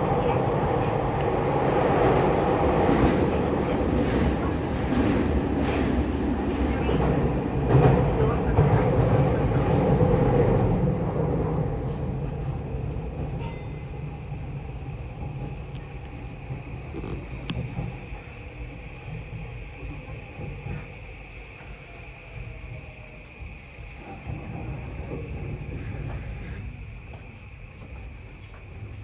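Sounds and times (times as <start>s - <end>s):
electric train rumble: 0.0s - 29.0s.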